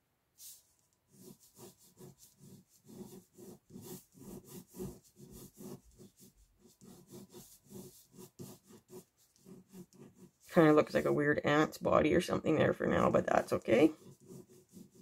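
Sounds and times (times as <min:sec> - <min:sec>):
pen scratching on paper: 0:00.4 - 0:11.7, 0:12.4 - 0:15.0.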